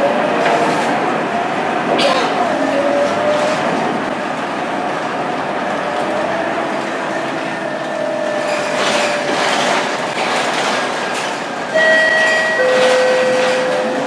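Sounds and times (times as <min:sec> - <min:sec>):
bus engine whining: 0:00.0 - 0:14.0.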